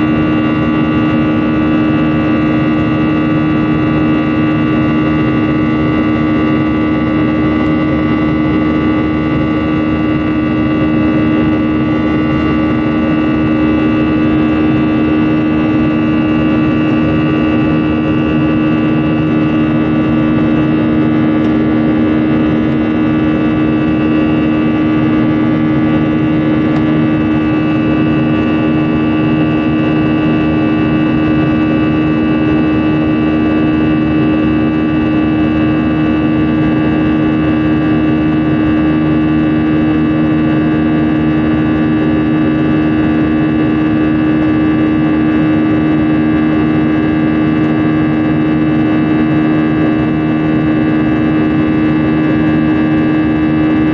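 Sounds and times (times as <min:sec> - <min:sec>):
jet engines humming and whining: 0:00.0 - 0:53.9.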